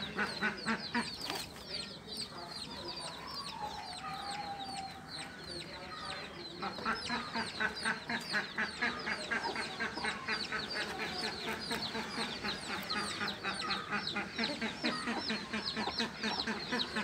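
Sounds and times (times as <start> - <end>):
birds cheeping: 0.0 - 17.0.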